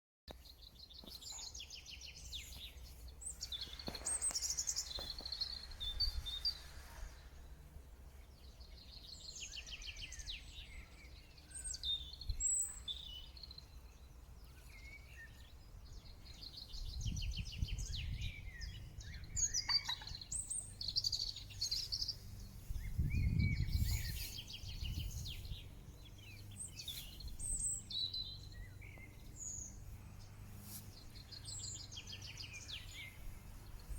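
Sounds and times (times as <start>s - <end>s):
songbirds singing: 0.3s - 33.9s.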